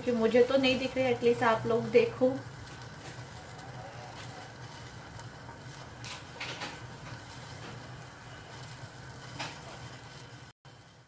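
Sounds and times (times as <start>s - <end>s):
gas burner rumble: 0.0s - 11.0s
liquid bubbling hisses: 0.0s - 11.0s.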